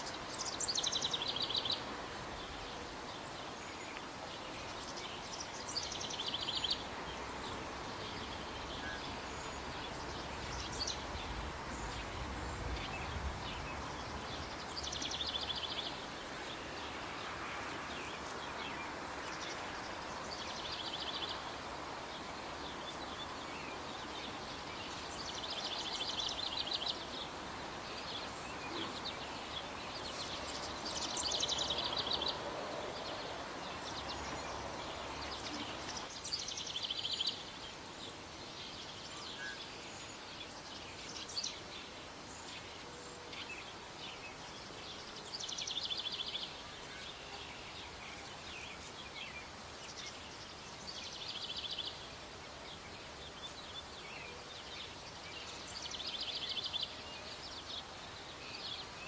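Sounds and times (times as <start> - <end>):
low noise: 0.0 - 59.0
outdoor hiss: 0.0 - 59.0
small birds calling: 0.0 - 59.0.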